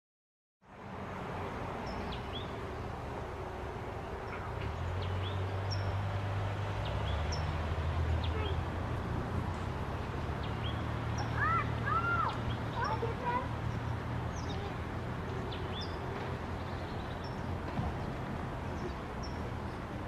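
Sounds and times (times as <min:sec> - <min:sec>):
small birds chirping: 0:01.8 - 0:02.7, 0:04.0 - 0:20.0.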